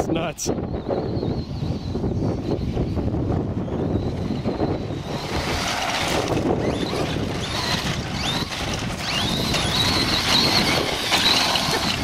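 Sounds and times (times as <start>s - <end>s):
wind on microphone: 0.0s - 12.0s
electric motor whining: 0.6s - 12.0s.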